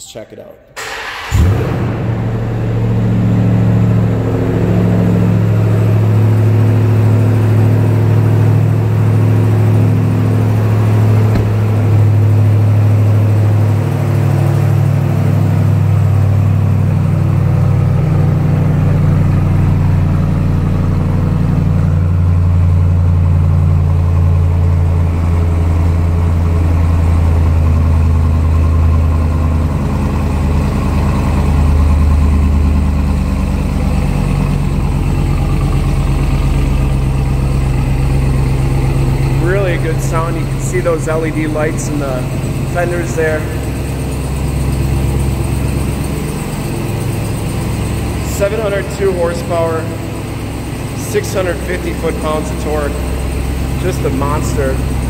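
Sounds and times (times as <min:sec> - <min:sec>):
truck engine fast idle: 0:00.8 - 0:55.0.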